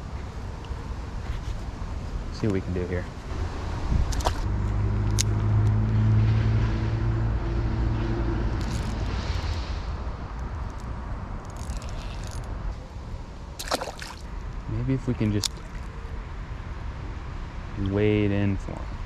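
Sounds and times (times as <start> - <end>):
distant engine drone: 0.0 - 19.0.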